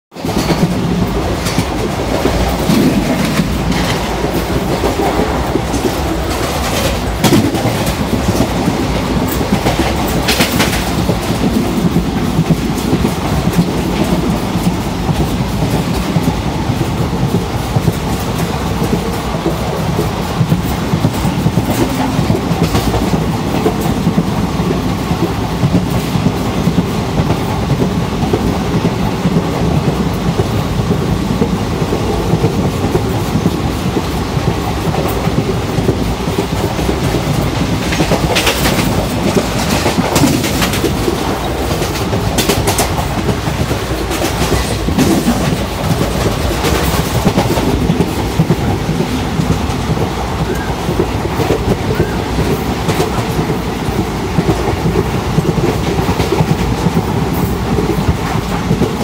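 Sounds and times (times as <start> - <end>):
train wheels rumbling on rail: 0.1 - 59.0
sharp clicks and knocks: 0.3 - 59.0.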